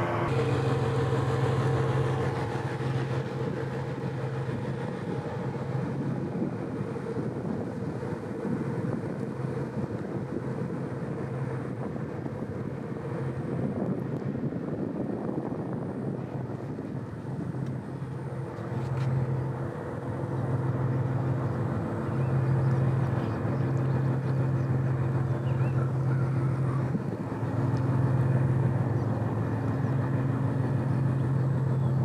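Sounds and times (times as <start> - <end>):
ship engine low drone: 0.0 - 32.0
wind buffeting microphone: 0.2 - 32.0.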